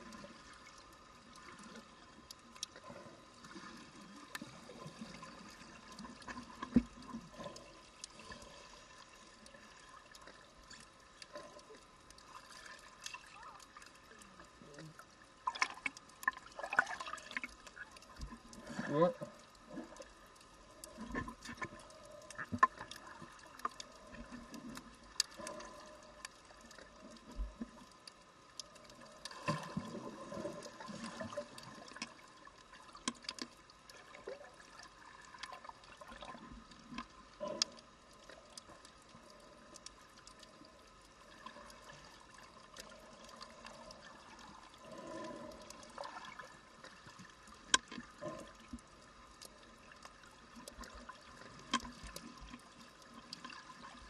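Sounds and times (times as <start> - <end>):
muffled underwater water movement: 0.0 - 54.0.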